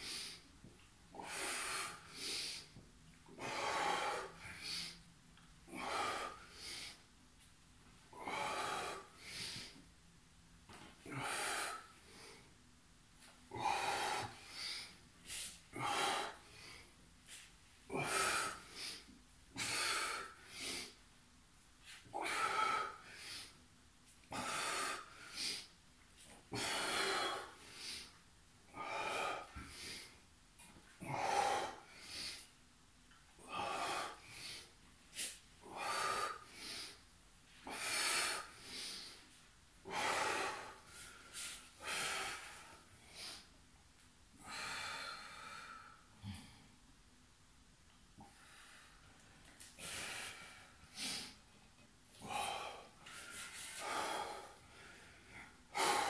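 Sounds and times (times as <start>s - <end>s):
man breathing heavily: 0.0s - 7.2s, 8.0s - 9.9s, 10.7s - 21.0s, 21.8s - 32.6s, 33.3s - 43.6s, 44.3s - 46.8s, 48.2s - 56.0s.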